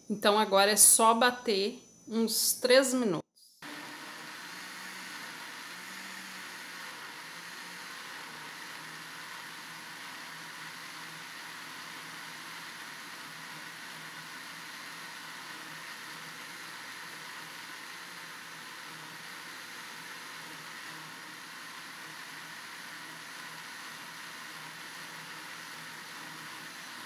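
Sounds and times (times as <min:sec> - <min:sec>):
blender running: 0:03.6 - 0:27.0.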